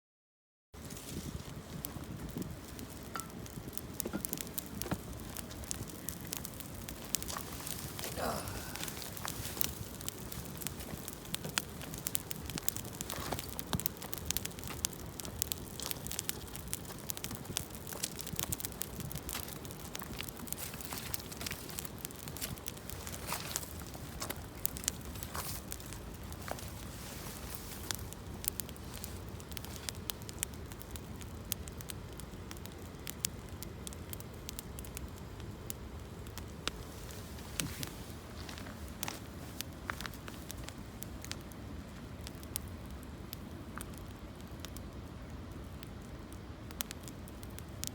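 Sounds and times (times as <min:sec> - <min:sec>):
campfire crackling and popping: 0:00.8 - 0:47.9.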